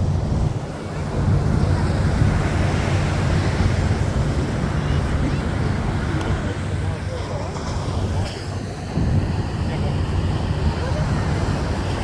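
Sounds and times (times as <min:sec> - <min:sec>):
turboprop engines roaring: 0:00.0 - 0:12.0
wind buffeting microphone: 0:00.0 - 0:12.0.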